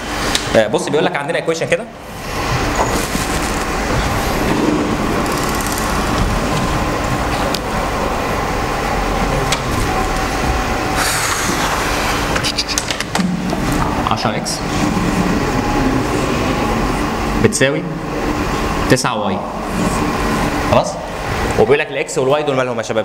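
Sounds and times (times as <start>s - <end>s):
room hum and hiss: 0.0s - 23.0s.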